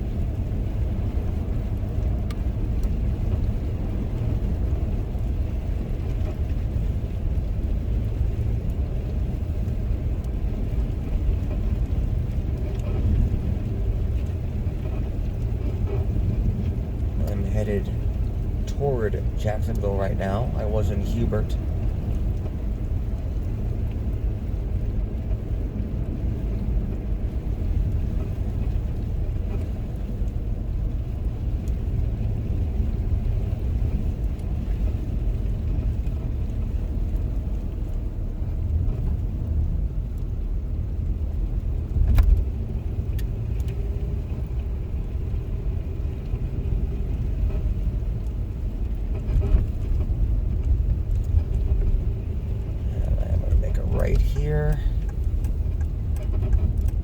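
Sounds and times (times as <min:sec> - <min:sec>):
car interior rumble: 0:00.0 - 0:57.0.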